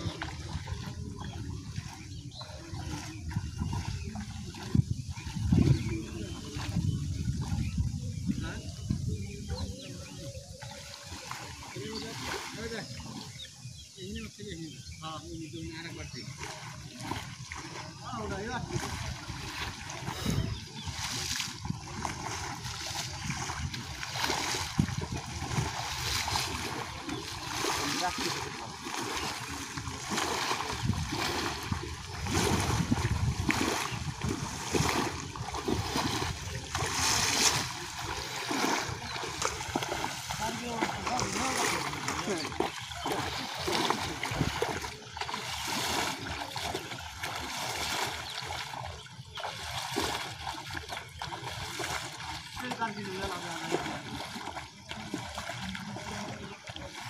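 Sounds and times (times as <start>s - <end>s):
people wading through water: 0.0s - 57.0s.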